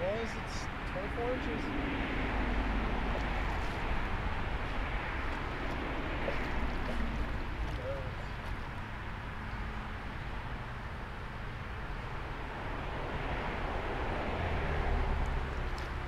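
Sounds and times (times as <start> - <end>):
passing highway traffic: 0.0 - 16.0
wind rumble on microphone: 0.5 - 16.0.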